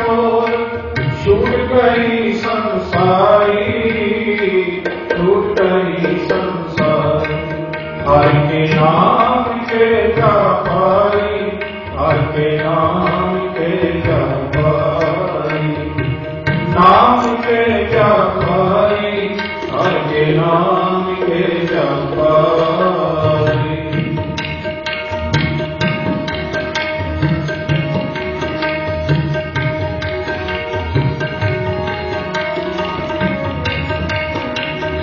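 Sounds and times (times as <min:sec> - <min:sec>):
instrumental accompaniment: 0:00.0 - 0:35.0.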